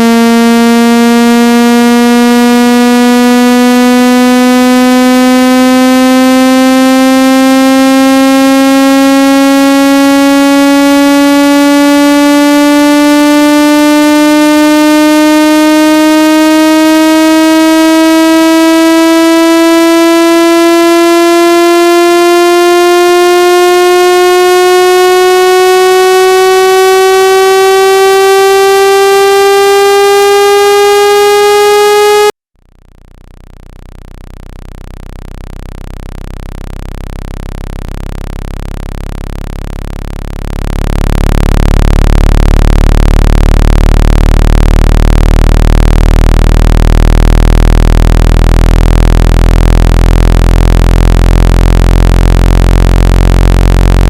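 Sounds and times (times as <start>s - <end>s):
buzzy tone gliding upward: 0.0s - 32.3s, 38.4s - 54.0s
deep low buzzing tone: 0.0s - 54.0s.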